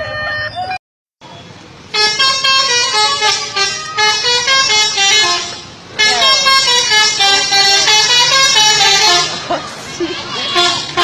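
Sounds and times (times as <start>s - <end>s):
bus musical horn playing a tune: 1.3s - 11.0s.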